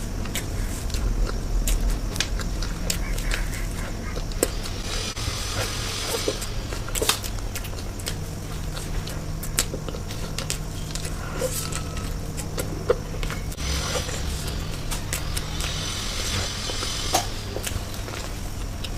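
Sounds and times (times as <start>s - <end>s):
chewing crisp food: 0.0s - 18.9s
steady low hum: 0.0s - 18.9s.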